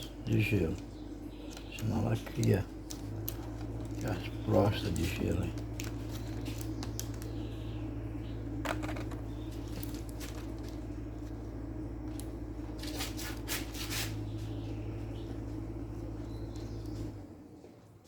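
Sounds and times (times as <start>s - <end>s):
scraping and crinkling handling: 0.0s - 18.0s
steady low hum: 0.0s - 18.0s.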